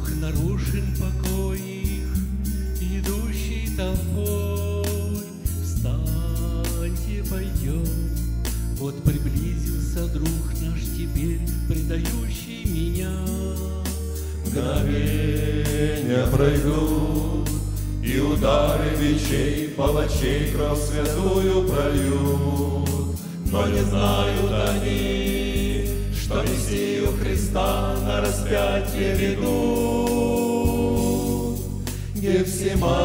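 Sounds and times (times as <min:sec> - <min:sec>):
male vocal quartet singing a hymn: 0:00.0 - 0:08.2, 0:08.8 - 0:33.0
recorded accompaniment with low bass: 0:00.0 - 0:33.0.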